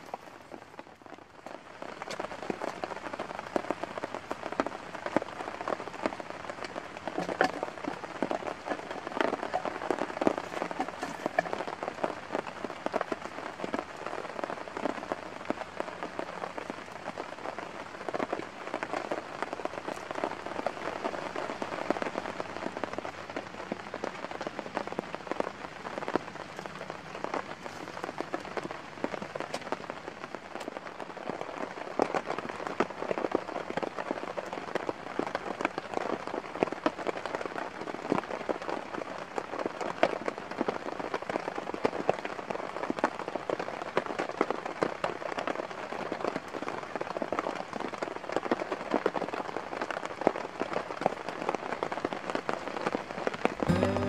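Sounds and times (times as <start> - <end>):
raindrops ticking on surfaces: 0.0 - 54.0
steady rain falling: 0.0 - 54.0.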